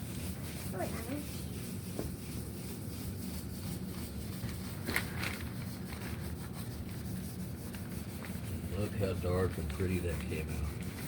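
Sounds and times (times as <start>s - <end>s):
faint handling and rubbing noise: 0.0s - 11.0s
steady low hum: 0.0s - 11.0s.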